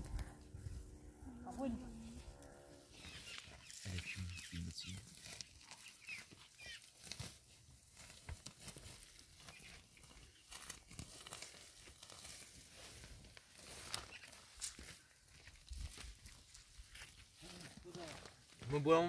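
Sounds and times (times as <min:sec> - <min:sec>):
faint rustling and crinkling: 0:00.0 - 0:19.0.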